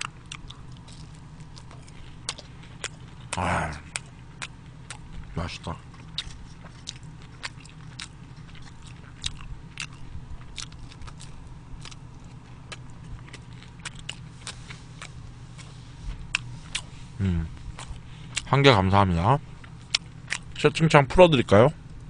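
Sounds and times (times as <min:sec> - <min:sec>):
chewing and mouth smacks: 0:00.0 - 0:17.0, 0:17.6 - 0:18.5, 0:19.6 - 0:20.7
low hum: 0:00.0 - 0:22.0.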